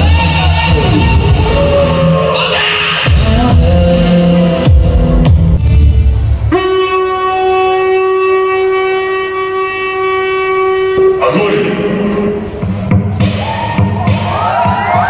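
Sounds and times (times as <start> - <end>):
dance music with heavy beat: 0.0 - 7.0, 8.7 - 15.0.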